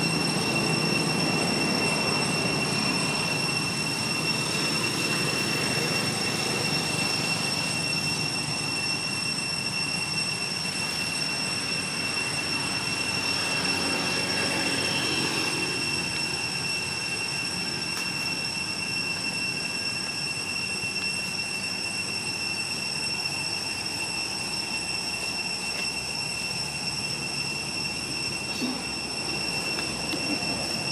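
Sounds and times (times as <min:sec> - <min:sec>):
cicadas droning: 0:00.0 - 0:30.9.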